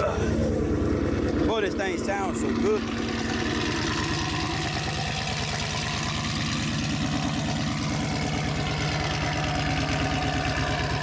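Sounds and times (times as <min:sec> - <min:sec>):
loud car engine idling: 0:00.0 - 0:11.0.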